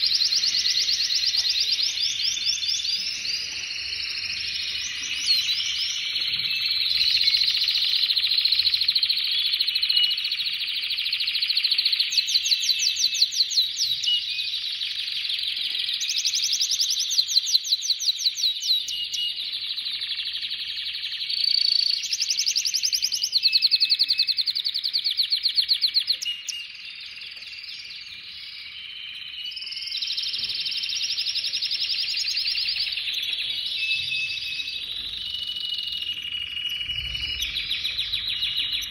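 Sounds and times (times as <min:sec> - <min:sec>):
canary singing with trills: 0:00.0 - 0:38.9.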